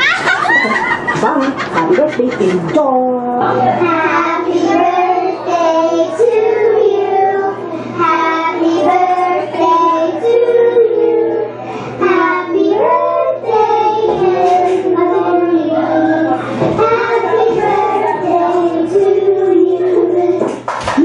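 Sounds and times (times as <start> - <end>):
girls singing together: 3.6 - 20.8.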